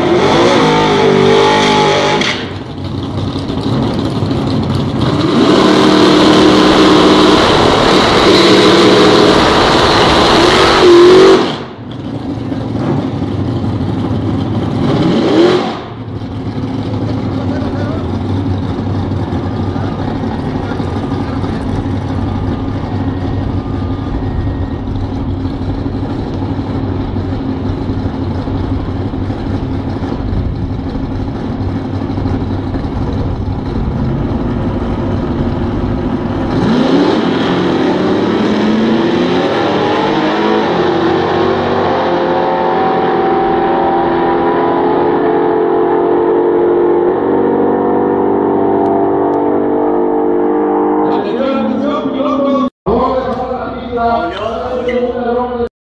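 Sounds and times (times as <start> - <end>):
drag racing car engines: 0.0 - 55.7.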